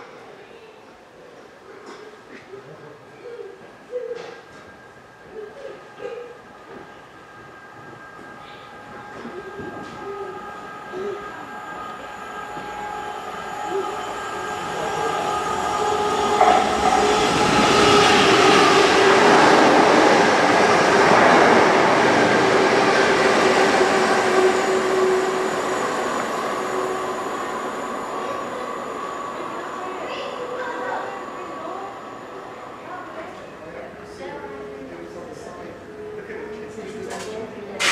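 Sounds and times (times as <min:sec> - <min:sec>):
train passing: 0:04.5 - 0:37.8
steady humming tones: 0:04.9 - 0:36.4.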